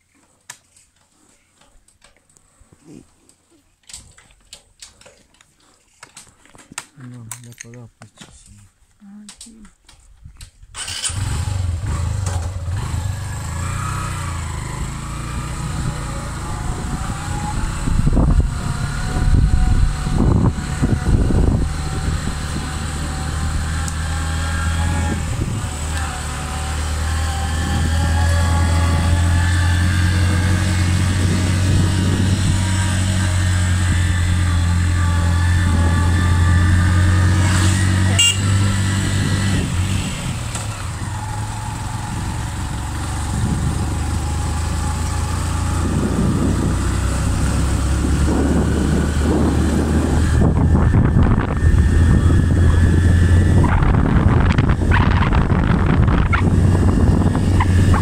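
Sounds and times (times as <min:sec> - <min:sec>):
rough rumbling noise: 0:10.7 - 0:58.0
motorcycle engine running: 0:10.8 - 0:58.0.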